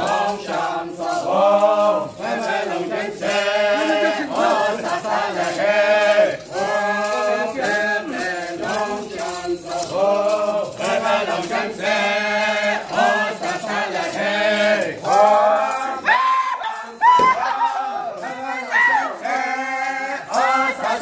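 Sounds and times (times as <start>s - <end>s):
group chanting a song: 0.0s - 21.0s.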